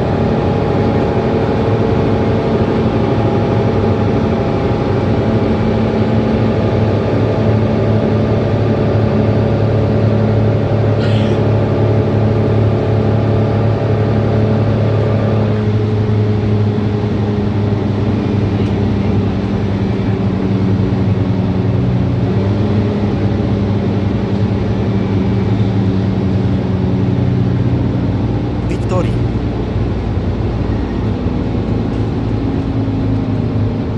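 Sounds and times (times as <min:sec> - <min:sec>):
bus engine running: 0:00.0 - 0:33.9.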